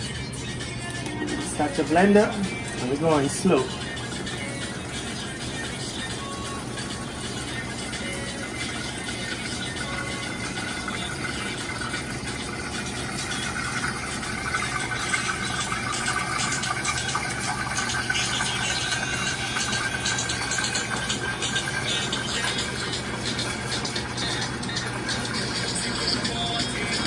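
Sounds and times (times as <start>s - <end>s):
blender motor running: 1.1s - 27.0s.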